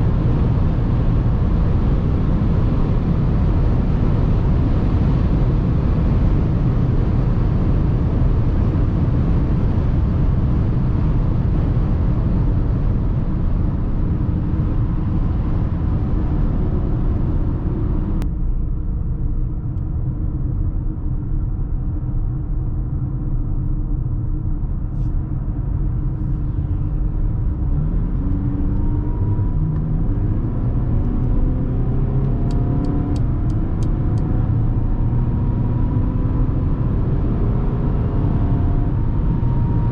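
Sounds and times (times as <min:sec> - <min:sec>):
diesel car engine: 0:00.0 - 0:39.9
road and wind noise: 0:00.0 - 0:39.9.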